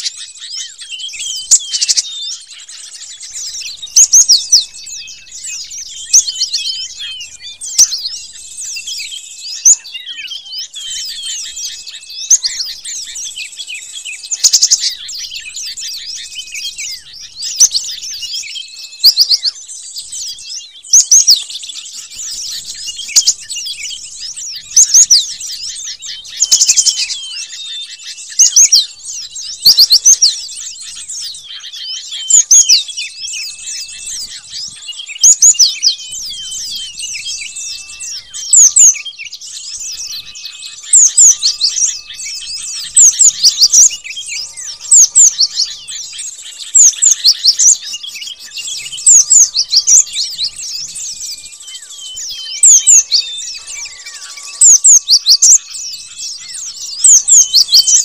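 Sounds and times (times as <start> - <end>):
bird chirping and chattering: 0.0 - 58.0.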